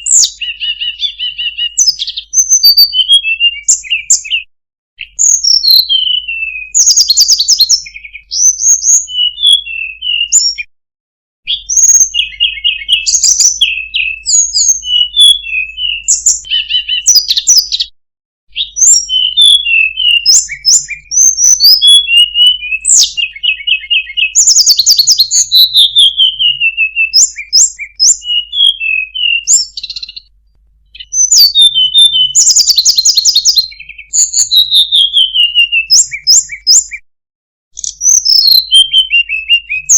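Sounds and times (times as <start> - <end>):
bird singing trills and whistles: 0.0 - 10.7, 11.4 - 17.9, 18.5 - 30.3, 30.9 - 37.0, 37.8 - 39.9.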